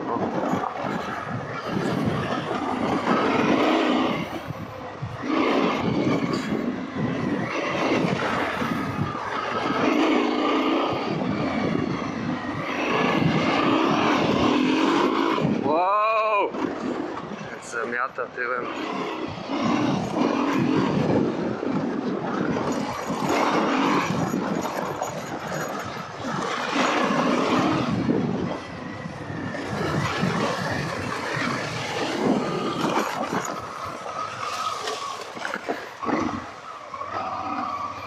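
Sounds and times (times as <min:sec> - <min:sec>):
tyres on dirt track: 0:00.0 - 0:38.0
wind noise: 0:00.0 - 0:38.0.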